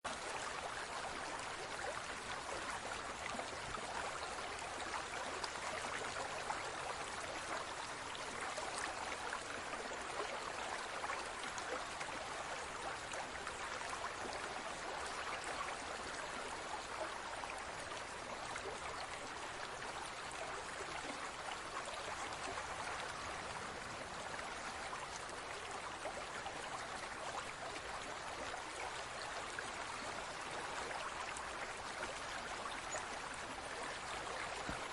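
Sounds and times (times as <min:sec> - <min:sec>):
water trickling in an aquarium: 0:00.1 - 0:34.9.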